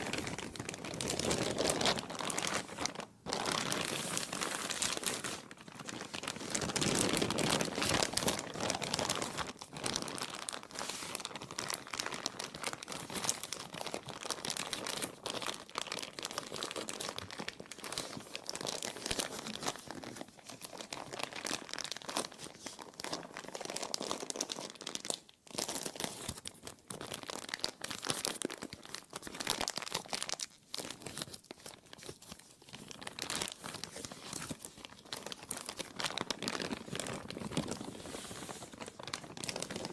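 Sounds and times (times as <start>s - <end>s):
plastic crumpling and crinkling: 0.0s - 39.9s.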